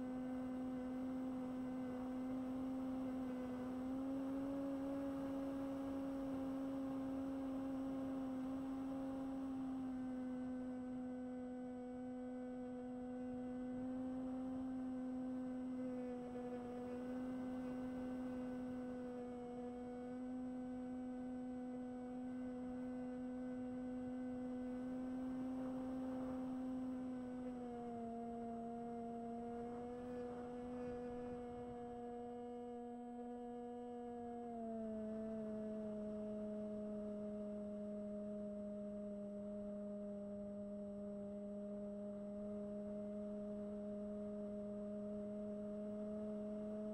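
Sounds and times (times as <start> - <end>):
model plane electric motor whine: 0.0 - 46.9.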